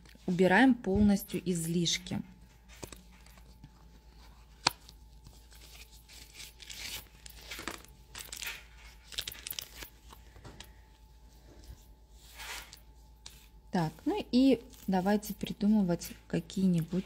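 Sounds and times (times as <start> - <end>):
rustling and scraping: 0.0 - 17.0.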